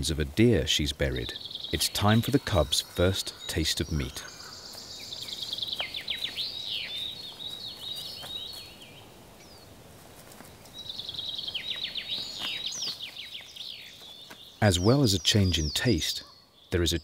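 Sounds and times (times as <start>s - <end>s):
songbird singing falling notes: 0.0s - 9.7s, 10.5s - 17.0s
faint outdoor background: 0.0s - 17.0s.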